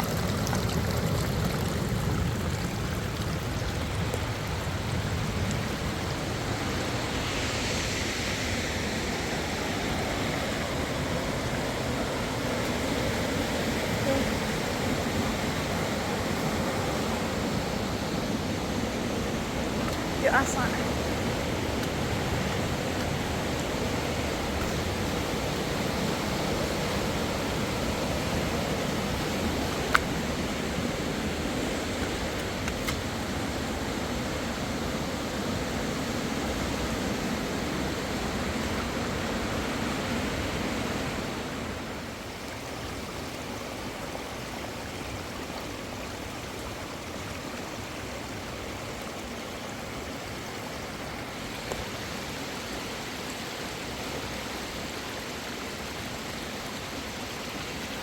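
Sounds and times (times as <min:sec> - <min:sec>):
fast-flowing river: 0:00.0 - 0:58.0.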